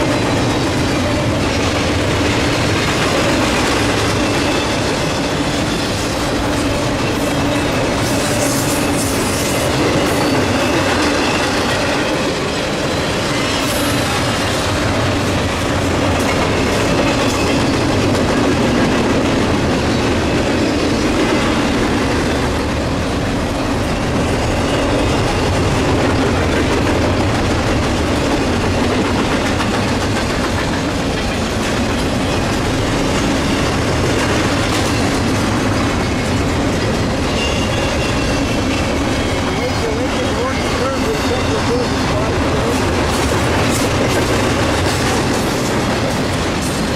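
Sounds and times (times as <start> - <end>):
clickety-clack over rail joints: 0.0 - 46.9
train wheels rumbling on rails: 0.0 - 46.9.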